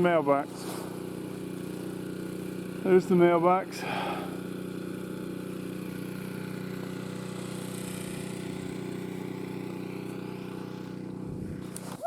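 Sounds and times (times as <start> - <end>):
small gasoline engine idling: 0.0 - 12.0.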